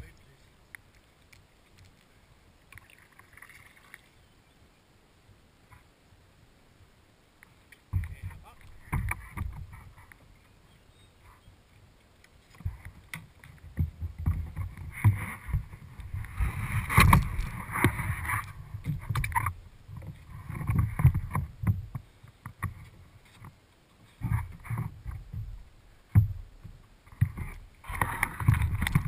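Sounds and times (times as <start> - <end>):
water splashing around kayak: 0.0 - 4.4, 7.5 - 29.0.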